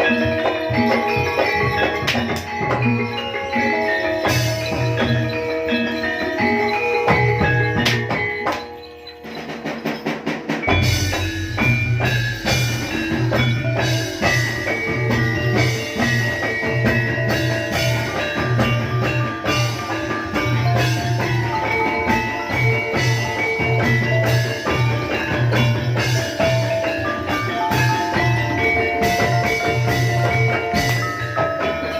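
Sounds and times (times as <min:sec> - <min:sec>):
gamelan percussion ensemble: 0:00.0 - 0:31.9.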